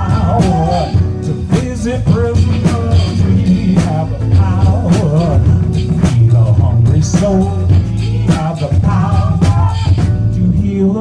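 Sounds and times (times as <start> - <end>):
bass guitar: 0.0 - 11.0
drum kit: 0.0 - 11.0
electric guitar: 0.0 - 11.0
man singing: 0.0 - 11.0.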